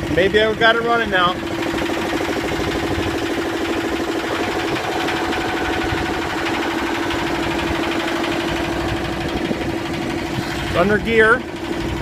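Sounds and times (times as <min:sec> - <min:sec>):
marine diesel engine running: 0:00.0 - 0:12.0.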